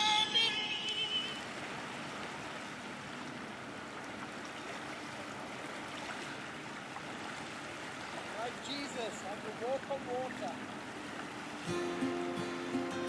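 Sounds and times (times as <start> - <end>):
shallow water washing: 0.0 - 13.0.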